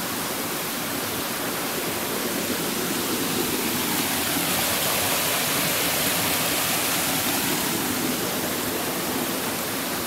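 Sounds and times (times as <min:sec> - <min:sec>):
stream water flowing: 0:00.0 - 0:10.0.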